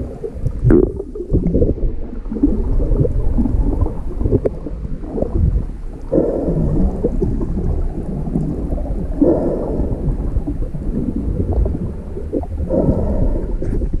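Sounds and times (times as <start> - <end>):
muffled underwater rumble and slosh: 0.0 - 14.0.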